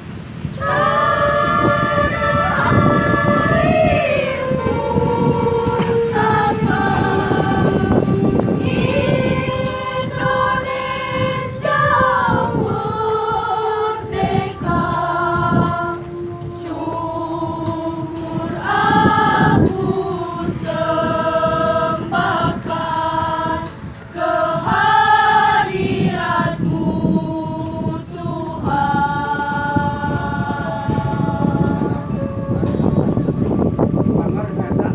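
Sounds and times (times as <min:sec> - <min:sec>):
choir singing sustained chords: 0:00.0 - 0:34.7.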